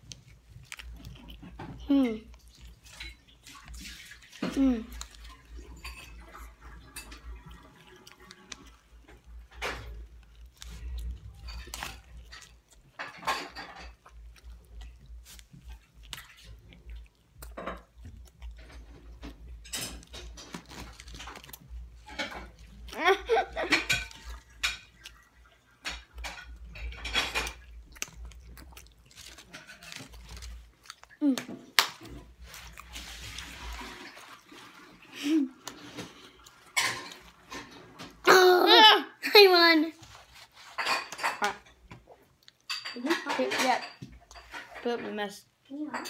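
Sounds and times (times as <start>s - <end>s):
boys chewing and smacking: 0.0s - 46.0s.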